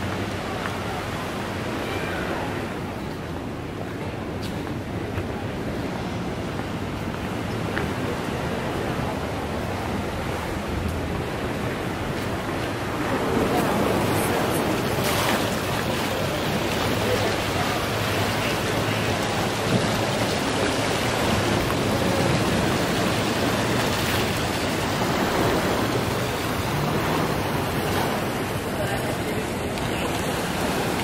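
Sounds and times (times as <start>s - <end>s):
ocean surf washing ashore: 0.0s - 31.0s.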